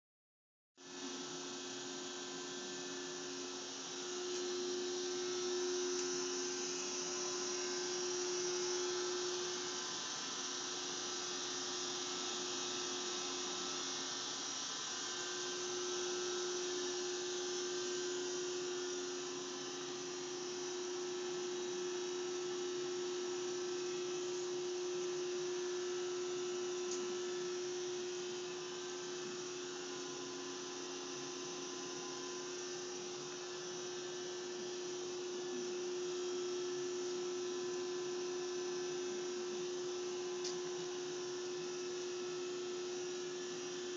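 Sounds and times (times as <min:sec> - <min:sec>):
machinery whining hum: 0:00.8 - 0:43.9.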